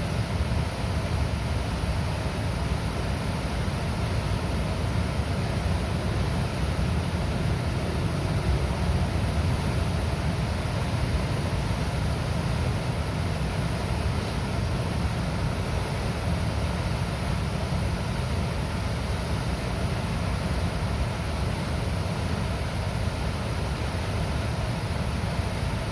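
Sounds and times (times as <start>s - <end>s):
water rushing through dam gates: 0.0s - 25.9s.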